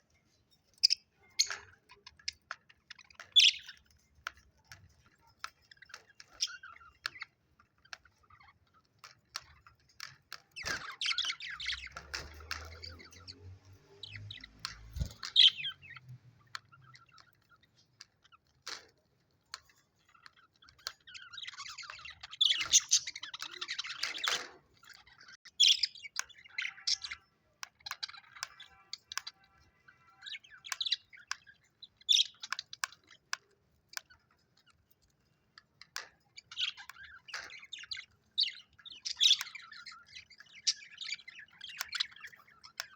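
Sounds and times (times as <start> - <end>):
budgerigars chirping and chattering: 0.3 - 42.9.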